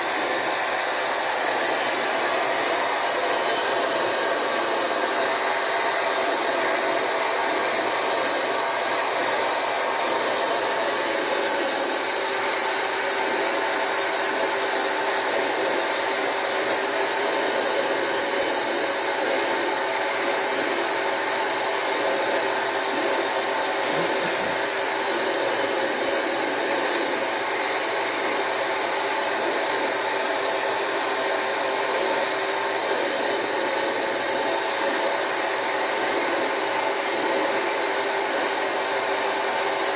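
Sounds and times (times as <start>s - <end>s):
vacuum sucking water: 0.0s - 38.8s
carpet extractor whining: 0.0s - 39.9s.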